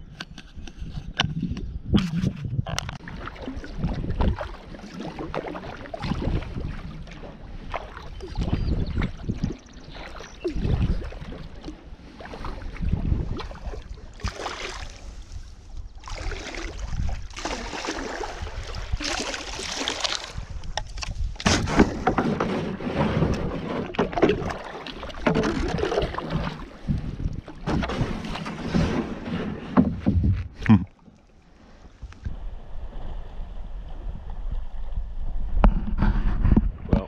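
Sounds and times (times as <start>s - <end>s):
wind rumble on microphone: 0.0s - 30.8s, 31.8s - 37.0s
kayak paddle splashing: 2.9s - 35.6s.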